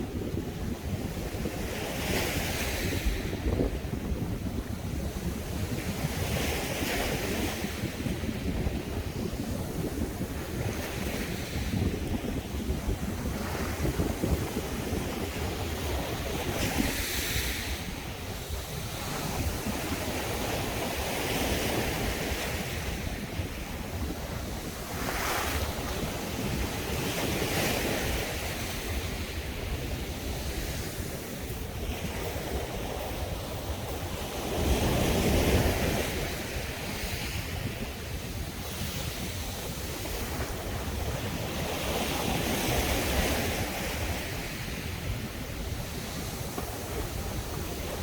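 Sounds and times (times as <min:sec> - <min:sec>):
sea waves breaking on beach: 0:00.0 - 0:48.0
wind buffeting microphone: 0:00.0 - 0:48.0.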